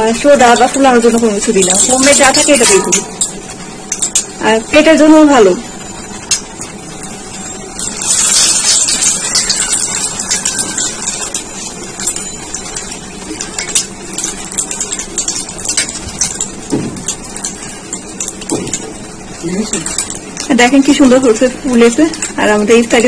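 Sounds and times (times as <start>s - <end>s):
hot oil sizzling: 0.0s - 23.0s.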